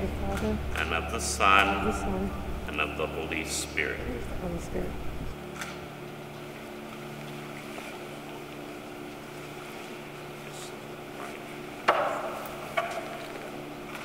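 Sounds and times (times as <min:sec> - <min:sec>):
low hum of held tones: 0:00.0 - 0:14.0.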